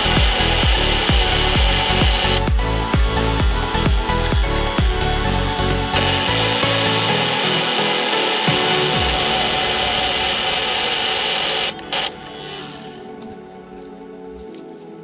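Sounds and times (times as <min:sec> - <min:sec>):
circular saw cutting steel: 0:00.0 - 0:13.0.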